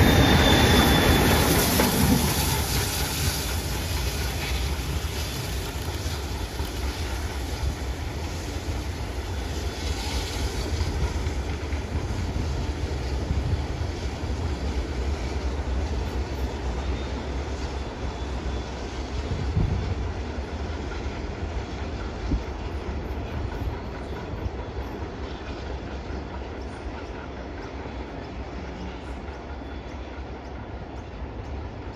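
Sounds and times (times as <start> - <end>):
train wheels rumbling on track: 0.0 - 31.9.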